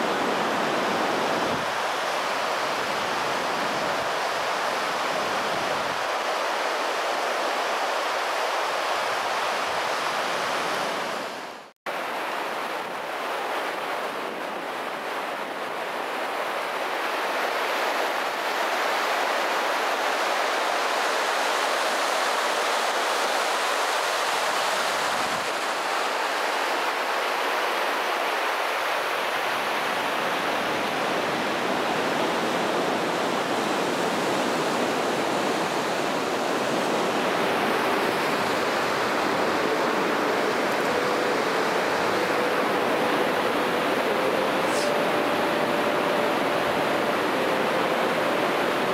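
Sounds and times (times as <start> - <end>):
river rushing: 0.0 - 48.9.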